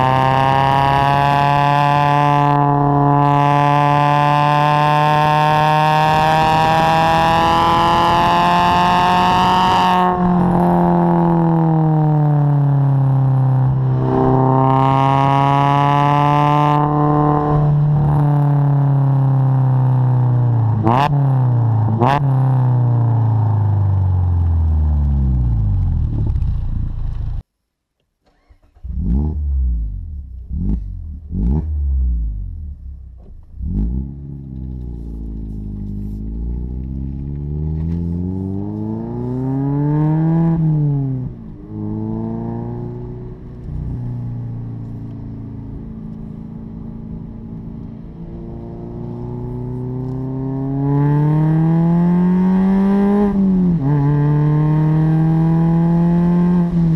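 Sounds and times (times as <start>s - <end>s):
car engine revving: 0.0s - 27.4s, 28.3s - 56.9s.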